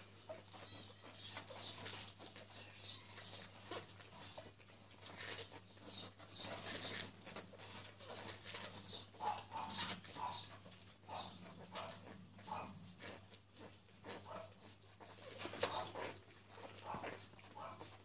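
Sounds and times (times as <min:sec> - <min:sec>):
puppies squeaking: 0:00.0 - 0:18.0.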